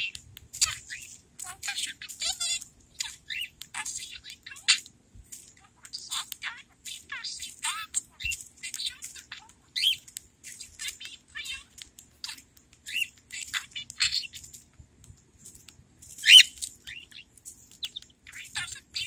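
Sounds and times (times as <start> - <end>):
budgerigar chirping and warbling: 0.0 - 4.9, 5.7 - 14.5, 16.2 - 19.0.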